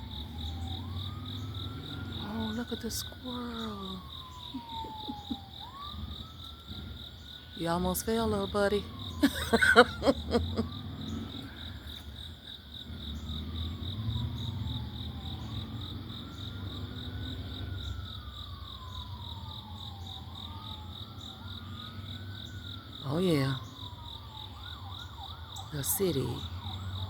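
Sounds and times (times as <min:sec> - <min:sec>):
distant siren wailing: 0:00.0 - 0:27.0
insects chirring: 0:00.0 - 0:27.0
traffic hum: 0:00.0 - 0:27.0.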